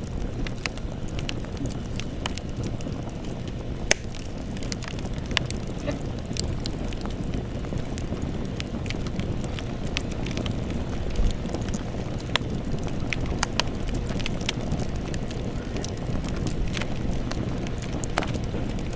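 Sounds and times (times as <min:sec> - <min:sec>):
campfire burning: 0:00.0 - 0:18.9.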